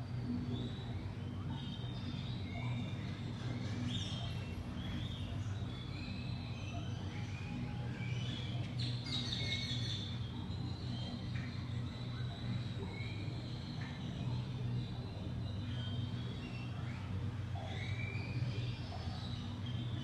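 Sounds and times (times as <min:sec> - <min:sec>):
steady low hum: 0:00.0 - 0:20.0
small birds chirping: 0:00.1 - 0:20.0.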